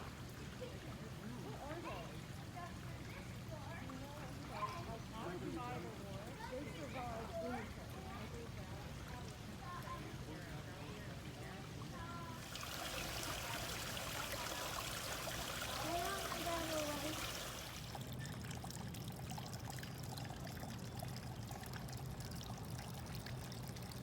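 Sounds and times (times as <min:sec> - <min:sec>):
stream trickling and splashing: 0:00.0 - 0:24.0.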